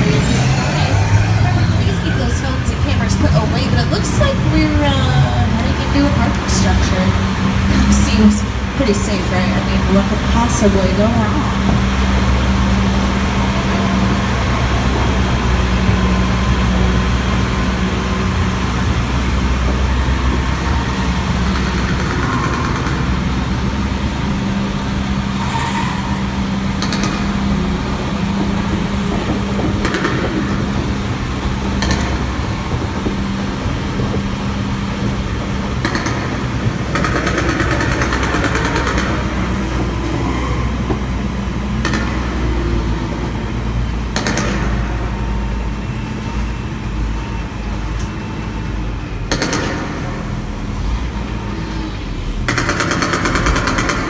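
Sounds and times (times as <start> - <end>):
tram engine humming: 0.0 - 54.0.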